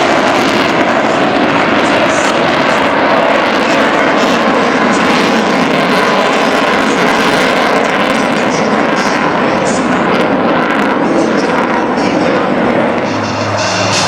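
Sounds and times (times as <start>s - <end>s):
loud jet noise: 0.0s - 14.0s.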